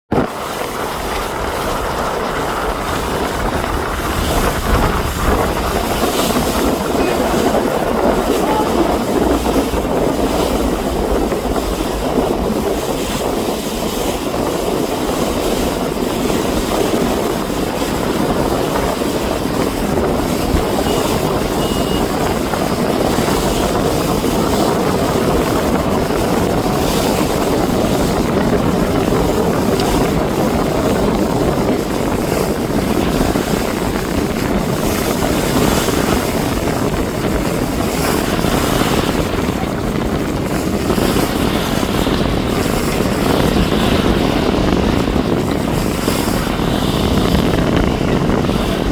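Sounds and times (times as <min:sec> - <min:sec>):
boat engine drone: 0:00.1 - 0:48.9
rushing water noise: 0:00.1 - 0:48.9.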